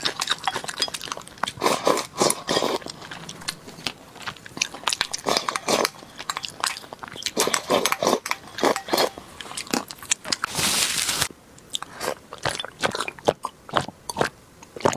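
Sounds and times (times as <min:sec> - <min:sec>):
person chewing with wet smacks: 0:00.0 - 0:10.5, 0:11.6 - 0:14.9.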